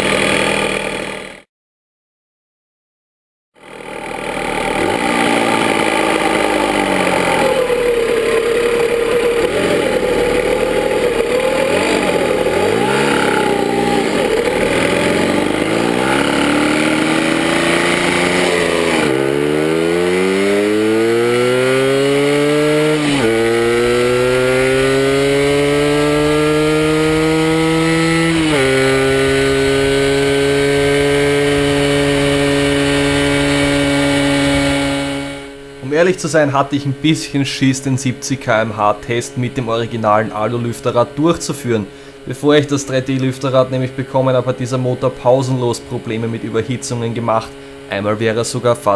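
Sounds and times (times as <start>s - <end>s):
two-stroke moped engine accelerating: 0.0s - 1.5s, 3.6s - 48.9s.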